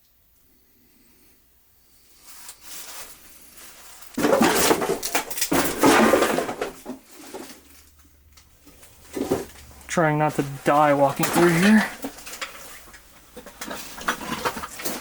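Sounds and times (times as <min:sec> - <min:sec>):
clutter crunching underfoot: 0:02.2 - 0:15.0.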